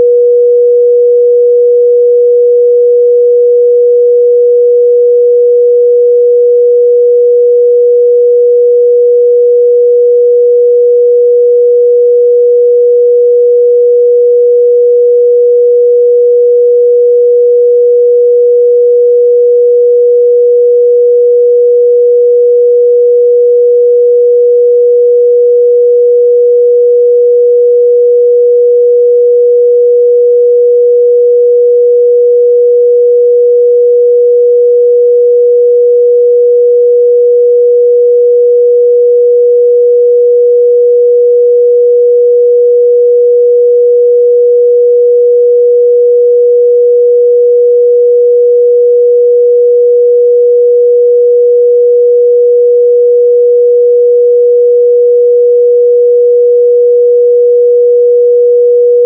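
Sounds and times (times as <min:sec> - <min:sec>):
sine wave test tone: 0:00.0 - 0:59.0.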